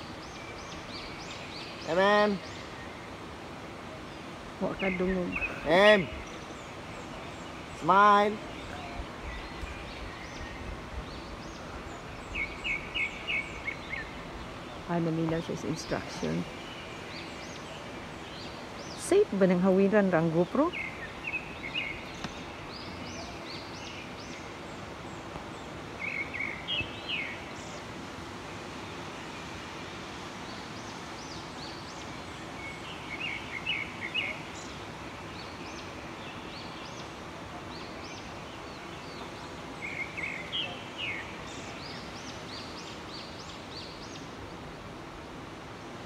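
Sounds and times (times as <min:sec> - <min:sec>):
outdoor background hiss: 0:00.0 - 0:46.0
bird chirping: 0:04.0 - 0:27.9, 0:30.4 - 0:44.6.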